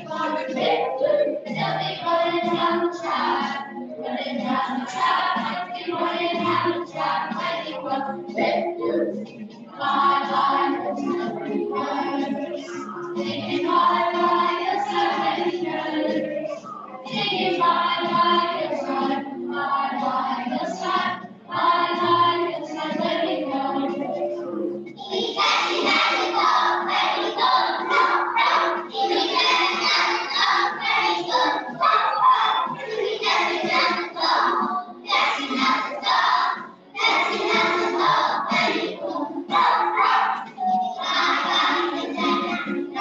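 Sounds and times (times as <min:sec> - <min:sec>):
children singing: 0:00.0 - 0:43.0.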